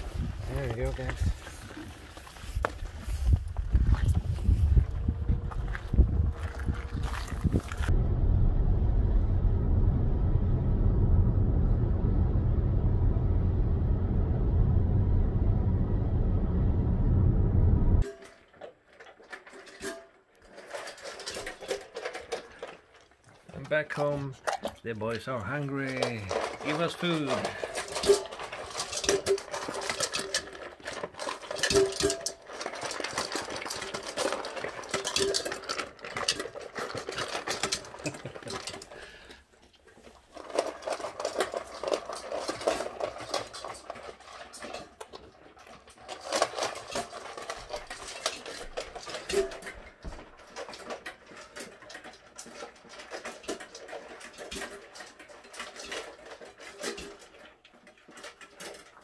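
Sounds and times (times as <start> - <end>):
dogs eating from metal bowls: 0.0 - 7.9, 18.0 - 59.0.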